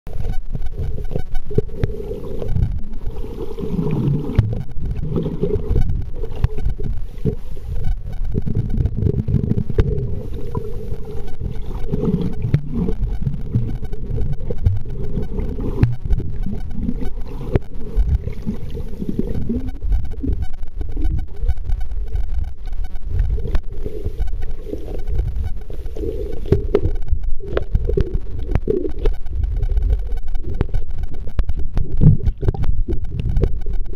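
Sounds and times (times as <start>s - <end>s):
low underwater rumbling: 0.1s - 33.9s
steady mid-pitched buzz: 0.1s - 33.9s
scattered clicks: 4.0s - 33.9s.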